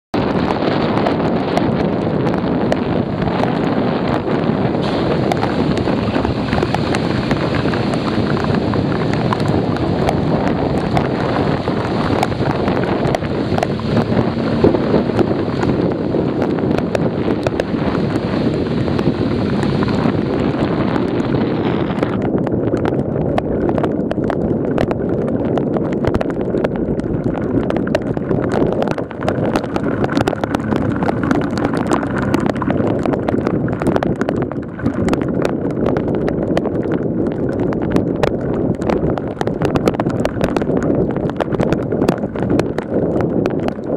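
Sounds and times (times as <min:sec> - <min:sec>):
heavy rain pattering on camera: 0:00.2 - 0:43.9
tyres running through water: 0:00.2 - 0:43.9
wind rushing: 0:00.2 - 0:43.9.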